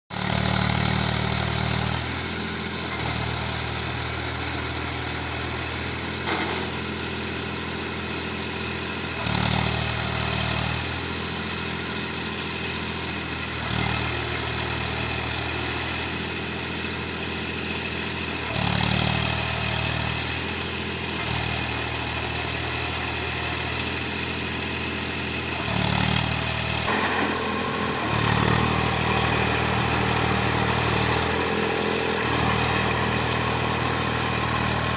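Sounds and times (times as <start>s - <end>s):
tractor diesel engine revving: 0.1s - 34.9s.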